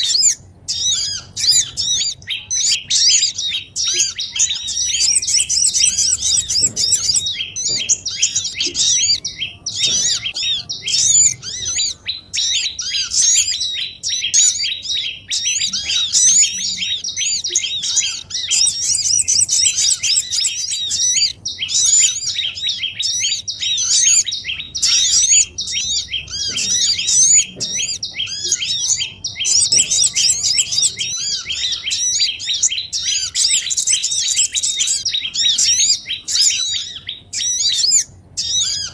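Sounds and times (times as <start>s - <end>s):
small birds chirping and twittering: 0.0s - 38.9s.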